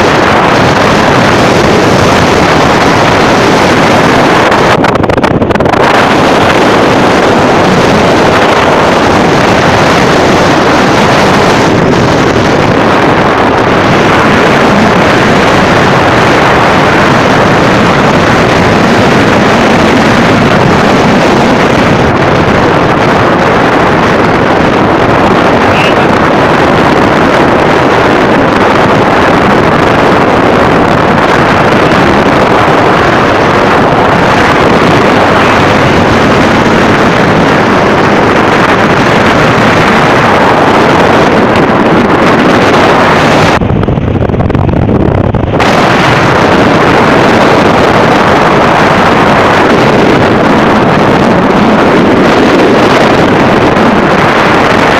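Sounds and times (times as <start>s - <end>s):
heavy rain: 0.0s - 54.9s
wind: 0.0s - 54.9s
wind buffeting microphone: 0.0s - 54.9s.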